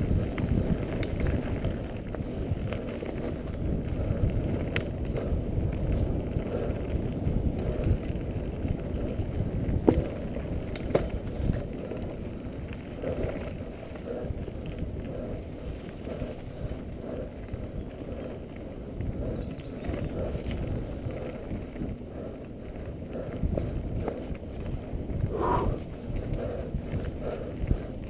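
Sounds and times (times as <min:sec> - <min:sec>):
bike rattling over bumps: 0:00.0 - 0:28.0.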